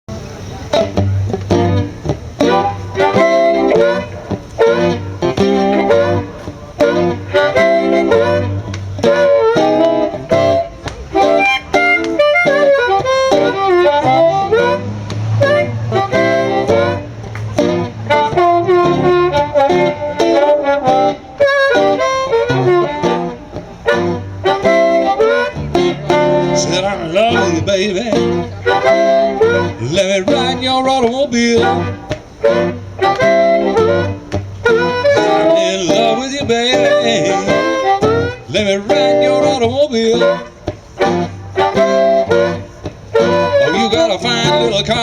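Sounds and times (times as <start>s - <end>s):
strummed and picked guitar: 0.1s - 45.0s
harmonica playing bending lines: 0.5s - 45.0s.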